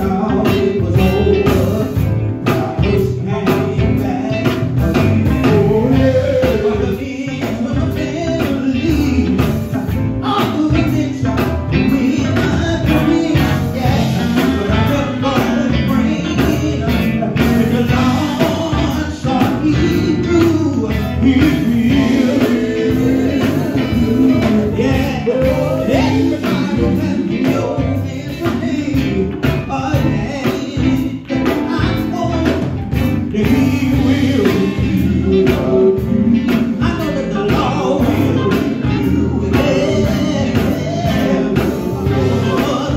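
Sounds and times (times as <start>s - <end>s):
bass guitar: 0.0s - 42.9s
electric guitars: 0.0s - 42.9s
man singing: 0.0s - 42.9s
steady beat: 8.4s - 42.9s.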